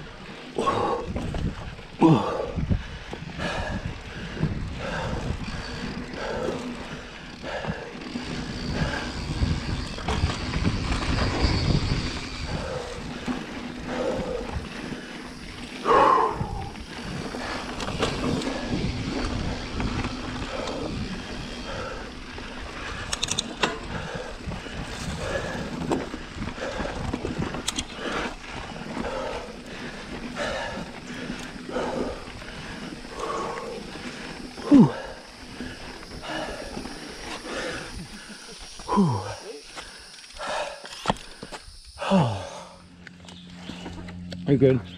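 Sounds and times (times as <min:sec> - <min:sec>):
bike chain and frame rattling: 0:00.0 - 0:44.3
bike tyre rumble on dirt: 0:00.0 - 0:44.9
wind buffeting the mic: 0:00.7 - 0:39.4.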